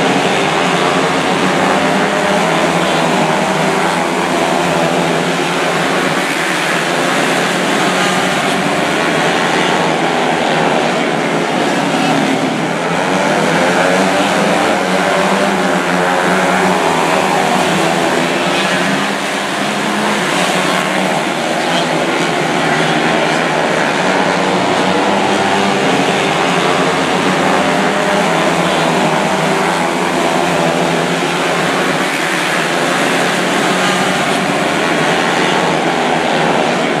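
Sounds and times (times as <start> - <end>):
small race car engines revving: 0.0 - 37.0.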